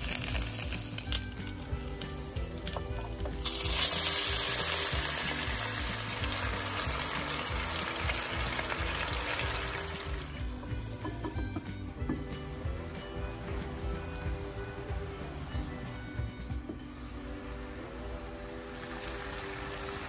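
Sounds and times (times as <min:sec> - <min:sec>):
hiss and sizzle in hot pan: 0:00.0 - 0:20.0.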